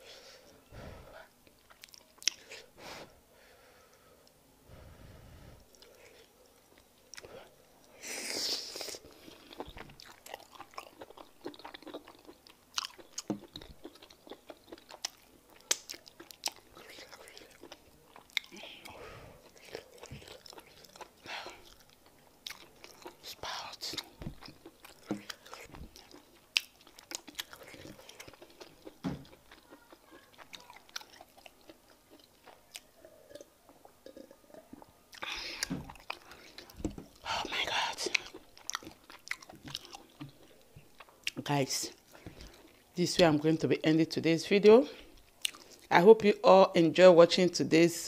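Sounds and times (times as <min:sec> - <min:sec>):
chewing with soft mouth clicks: 0:01.4 - 0:02.7, 0:05.7 - 0:08.0, 0:08.7 - 0:42.9, 0:45.0 - 0:45.9.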